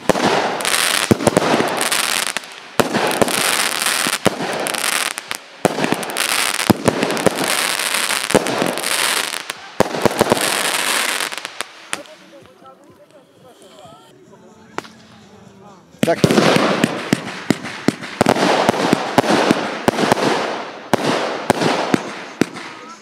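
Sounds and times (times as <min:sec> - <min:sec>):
fireworks bangs: 0:00.0 - 0:13.6, 0:16.0 - 0:23.0
fireworks crackle: 0:00.0 - 0:23.0.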